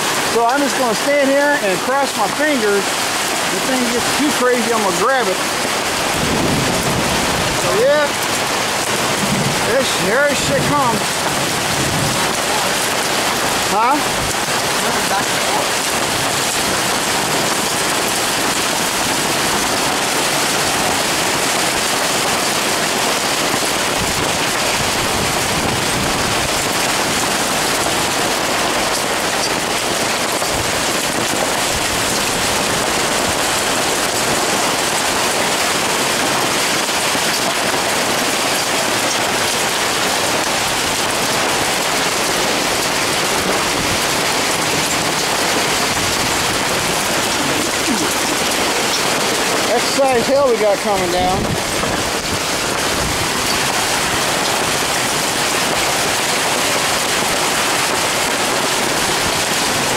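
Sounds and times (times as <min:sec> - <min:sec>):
rain and hail drumming on awning: 0:00.0 - 0:59.9.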